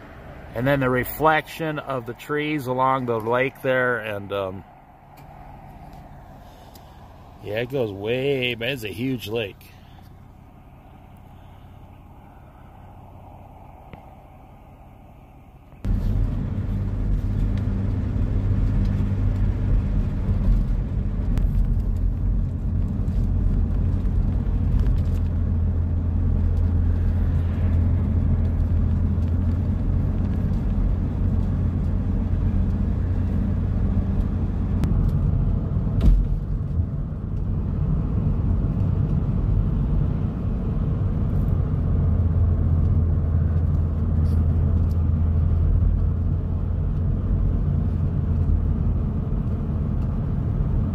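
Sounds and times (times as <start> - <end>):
car interior engine and road noise: 0.0 - 50.9.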